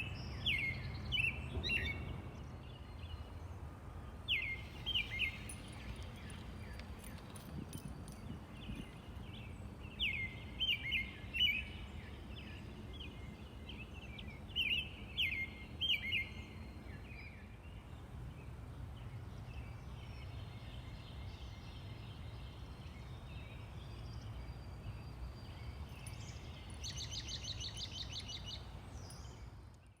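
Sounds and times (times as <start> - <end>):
robin singing: 0.0 - 3.5, 4.3 - 17.9, 19.5 - 29.9.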